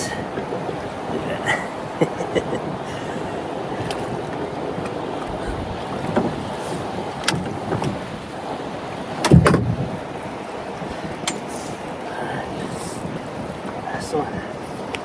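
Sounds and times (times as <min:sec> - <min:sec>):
river water: 0:00.0 - 0:15.0
water splashes: 0:00.0 - 0:15.0
wind: 0:00.0 - 0:15.0.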